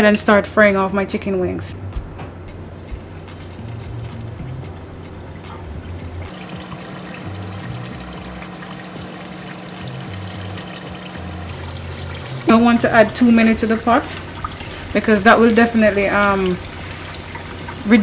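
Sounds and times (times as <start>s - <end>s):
background music: 0.0s - 18.0s
deep-frying sizzle and crackles: 2.6s - 18.0s.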